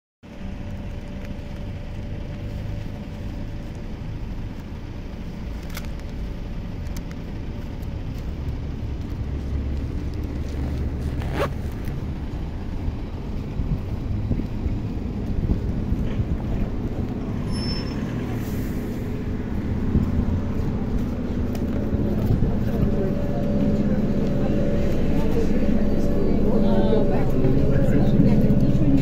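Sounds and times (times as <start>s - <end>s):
low traffic rumble: 0.2s - 29.0s
trolleybus approaching: 0.2s - 29.0s.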